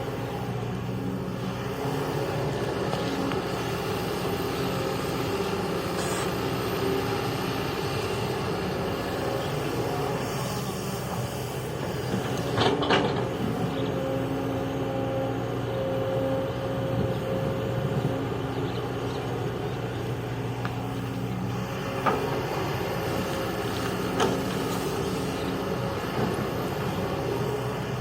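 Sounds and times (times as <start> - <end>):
construction machine engine: 0.0 - 28.0.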